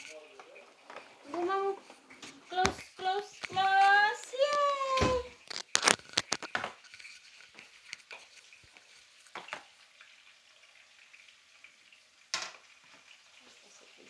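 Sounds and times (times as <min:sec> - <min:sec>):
food sizzling in oil: 0:00.0 - 0:14.0
small crackles and pops: 0:00.0 - 0:14.0.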